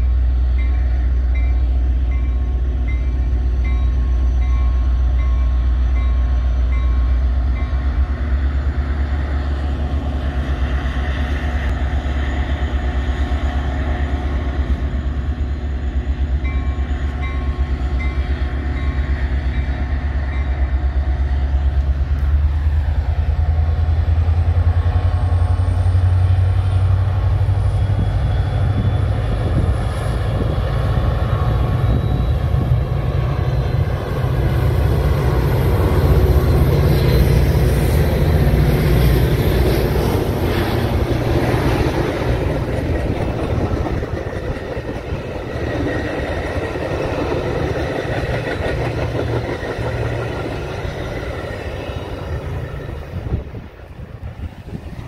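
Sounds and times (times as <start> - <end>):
diesel locomotive rumble: 0.0 - 55.0
train coaches running noise: 0.0 - 55.0.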